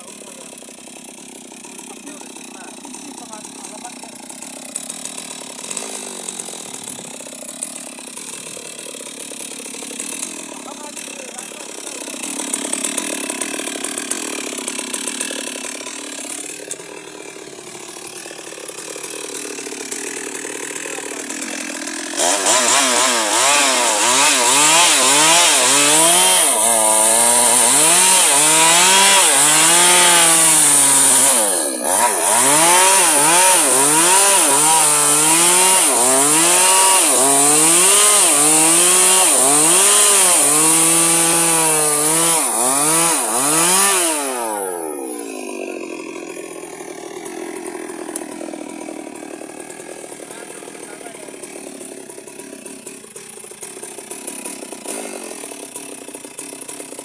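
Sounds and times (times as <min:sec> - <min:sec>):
electric chainsaw cutting wood: 0:00.0 - 0:57.0.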